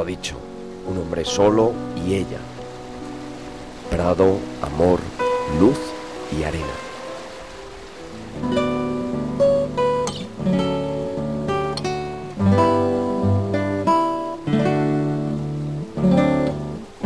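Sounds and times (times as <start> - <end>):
acoustic guitar plucked chords: 0.0 - 17.0.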